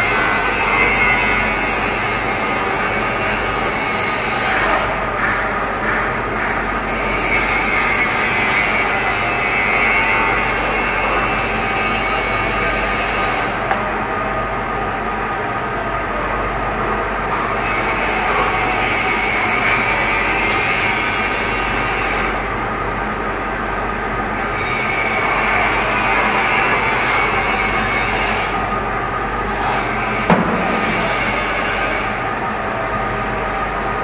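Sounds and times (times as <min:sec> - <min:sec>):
engine room machinery noise: 0:00.0 - 0:34.0.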